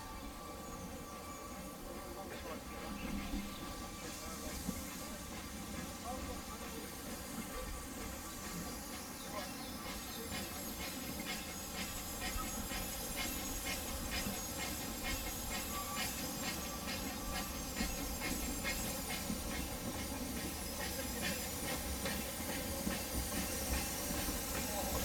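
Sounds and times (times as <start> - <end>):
steam hissing: 0.0 - 25.0
steam locomotive chuffing: 0.0 - 25.0.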